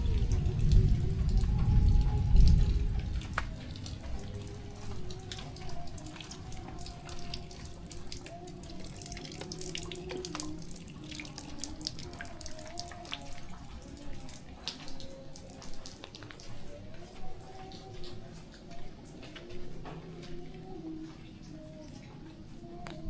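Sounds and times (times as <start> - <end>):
running water: 0.0 - 23.0
water dripping and splashing: 0.0 - 23.0.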